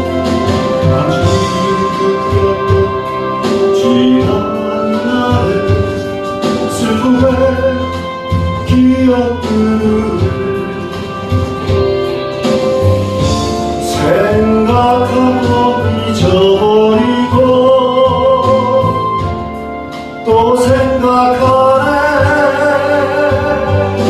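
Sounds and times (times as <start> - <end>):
person singing long gliding notes: 0.0 - 12.4, 13.7 - 19.2, 20.2 - 24.0
instrumental accompaniment: 0.0 - 24.0.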